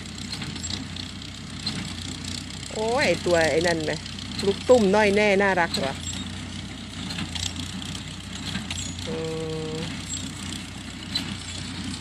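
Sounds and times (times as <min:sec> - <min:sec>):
baler machinery clicks: 0:00.0 - 0:12.0
tractor engine running: 0:00.0 - 0:12.0.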